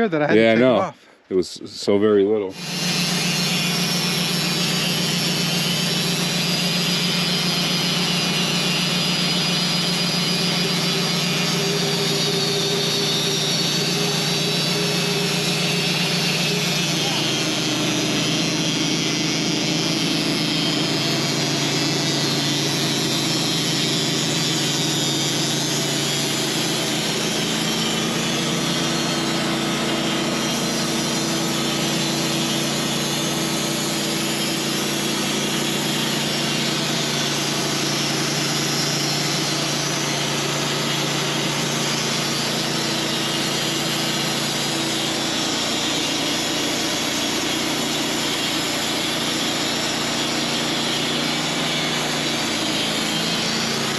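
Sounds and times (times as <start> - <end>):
band saw cutting log: 0.0 - 0.9, 1.9 - 53.9.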